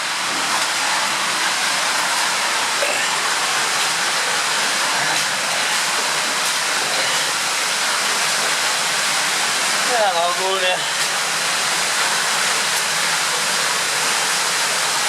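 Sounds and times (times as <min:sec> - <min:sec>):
underground waterfall rushing: 0:00.0 - 0:15.0.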